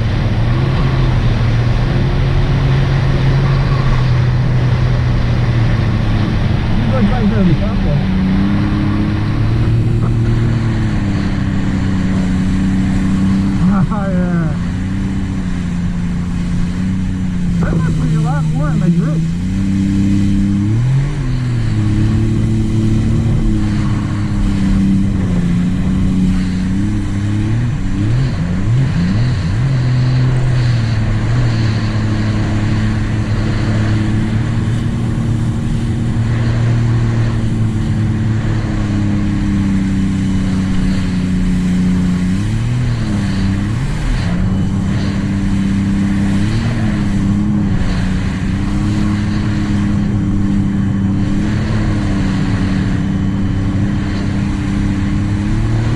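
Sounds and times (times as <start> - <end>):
water noise: 0.0 - 55.9
watercraft engine cruising: 0.0 - 55.9
wind noise: 0.0 - 55.9.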